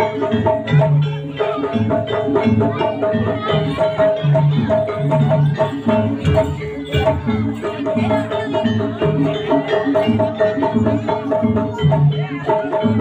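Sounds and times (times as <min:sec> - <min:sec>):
hand drums and percussion: 0:00.0 - 0:13.0.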